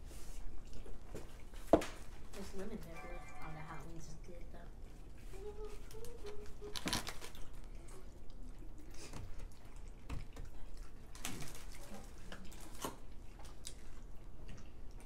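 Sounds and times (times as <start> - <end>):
wet chewing and lip-smacking: 0.4 - 2.3, 4.8 - 15.0.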